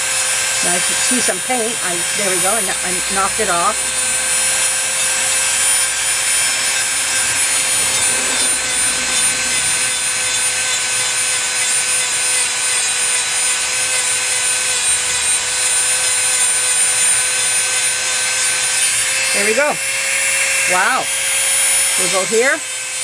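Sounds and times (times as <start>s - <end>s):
bit grinding off paint: 0.0s - 19.7s
rotary tool high-pitched whine: 0.0s - 23.0s.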